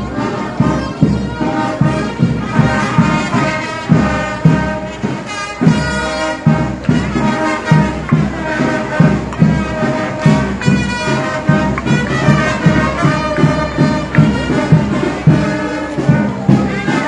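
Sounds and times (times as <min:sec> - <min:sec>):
bass drum beat: 0:00.0 - 0:17.0
brass band playing: 0:00.0 - 0:17.0.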